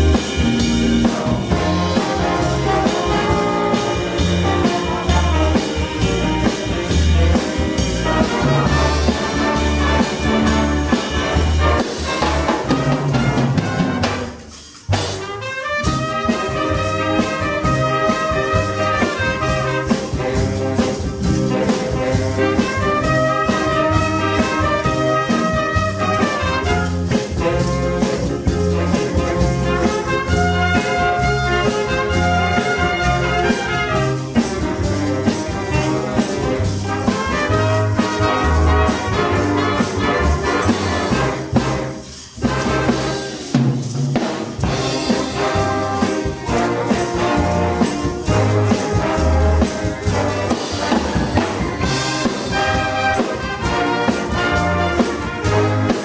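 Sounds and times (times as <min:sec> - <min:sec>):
saxophones and brass: 0:00.0 - 0:43.6, 0:44.6 - 0:56.0
drum kit: 0:00.0 - 0:56.0
guitar: 0:00.0 - 0:56.0
piano: 0:00.0 - 0:56.0.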